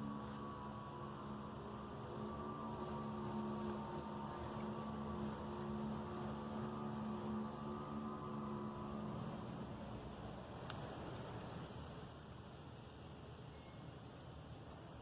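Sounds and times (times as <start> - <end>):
low droning hum: 0.0 - 13.9.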